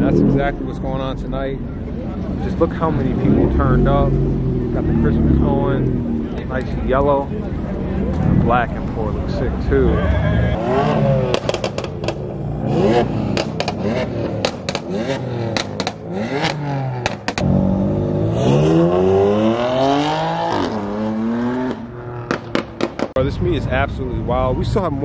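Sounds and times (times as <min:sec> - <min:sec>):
sports car engine revving: 0:00.0 - 0:23.8
exhaust popping: 0:00.0 - 0:25.0.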